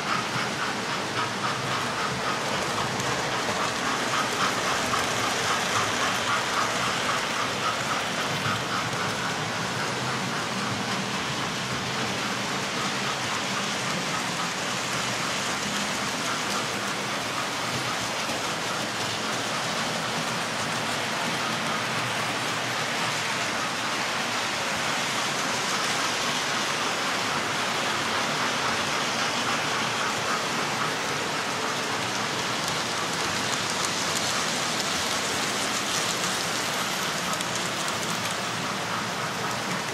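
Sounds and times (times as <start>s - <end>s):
model train rushing hiss: 0.0s - 39.9s
wheels clicking over rails: 0.0s - 39.9s.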